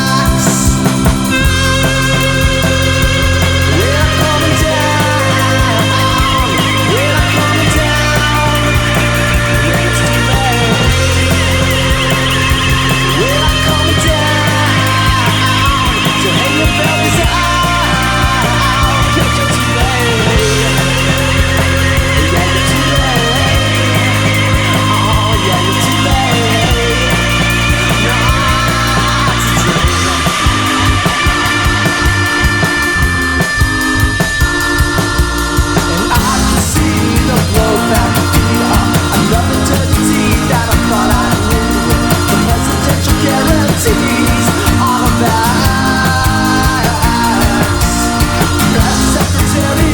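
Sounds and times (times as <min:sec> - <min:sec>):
psychedelic rock instrumental: 0:00.0 - 0:49.9.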